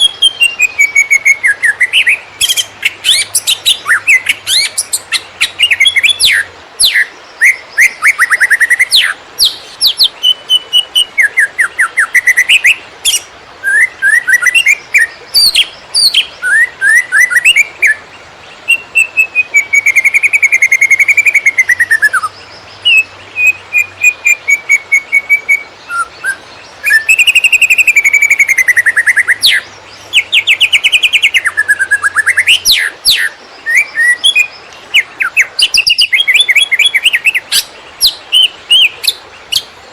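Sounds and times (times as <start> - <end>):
bird singing trills and whistles: 0.0 - 39.8.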